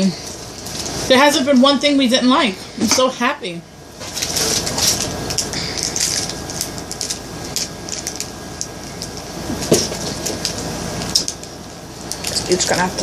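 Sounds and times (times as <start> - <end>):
snack packaging crinkling: 0.2 - 1.6, 4.0 - 13.0.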